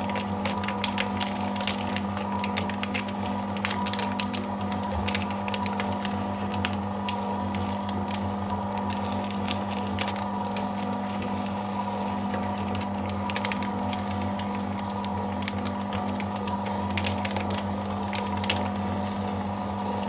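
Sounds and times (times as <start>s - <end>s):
paper crackling while cut: 0.0s - 20.0s
paper shredder motor hum: 0.0s - 20.0s.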